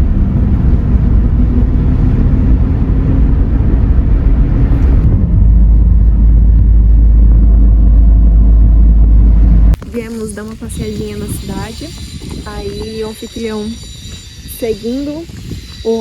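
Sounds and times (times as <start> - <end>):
car road rumble: 0.0 - 16.0.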